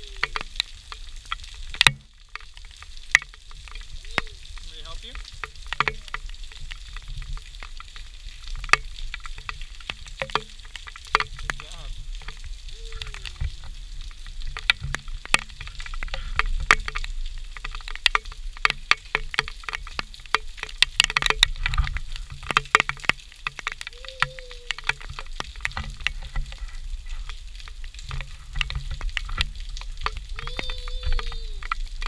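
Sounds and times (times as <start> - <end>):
rain falling on concrete: 0.0 - 32.0.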